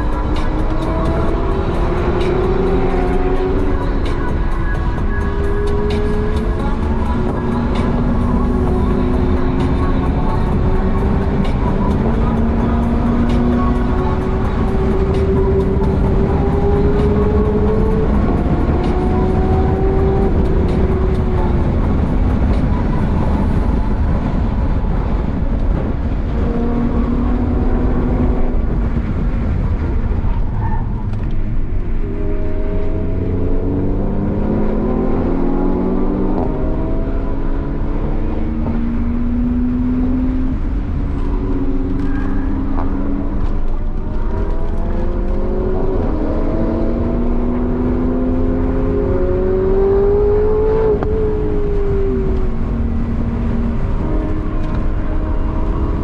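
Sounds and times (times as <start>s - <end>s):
car engine accelerating: 0.0s - 56.0s
road rumble: 0.0s - 56.0s
wind noise: 0.0s - 56.0s.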